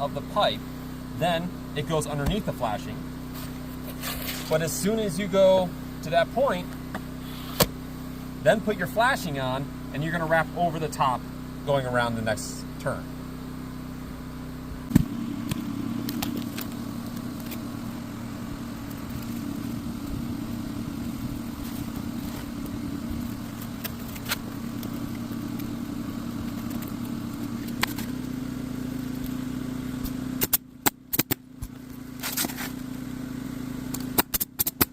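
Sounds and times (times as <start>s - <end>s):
machine hum: 0.0s - 34.9s.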